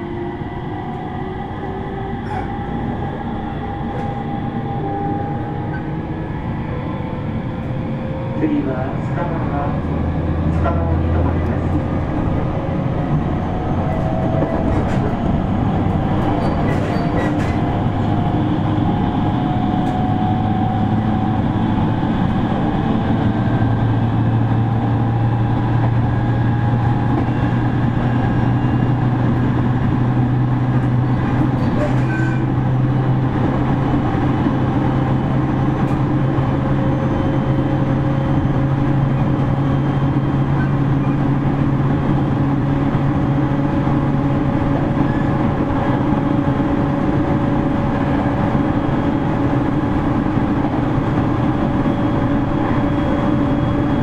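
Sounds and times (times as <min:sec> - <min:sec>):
train motor hum: 0:00.0 - 0:54.0
train wheels rumbling on rail: 0:00.0 - 0:54.0.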